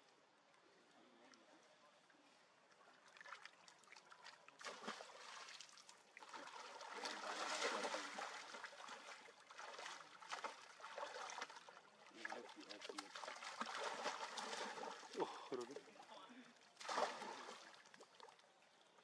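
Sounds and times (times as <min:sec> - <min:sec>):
water splashing and trickling: 0:02.8 - 0:19.0.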